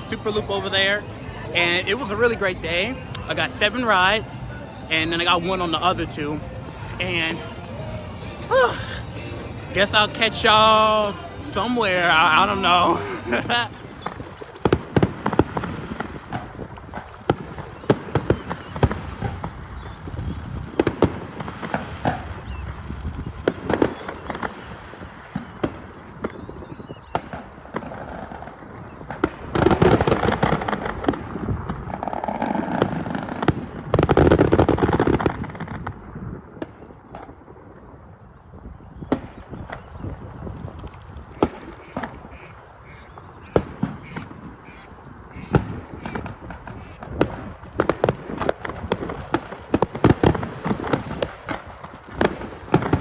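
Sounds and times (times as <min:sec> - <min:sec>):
fireworks dense crackling: 0:00.0 - 0:53.0
fireworks bangs and pops: 0:09.8 - 0:53.0.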